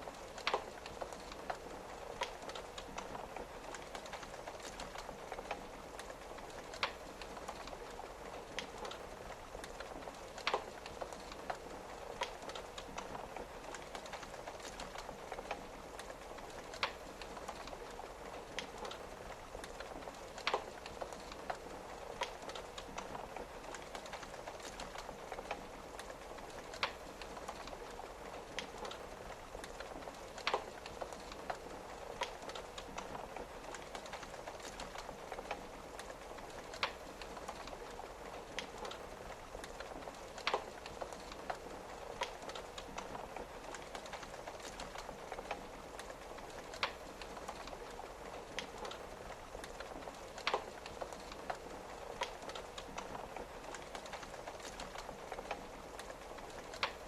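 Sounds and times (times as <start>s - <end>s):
rain on a window: 0.0s - 57.0s
wood fire crackling: 0.0s - 57.0s.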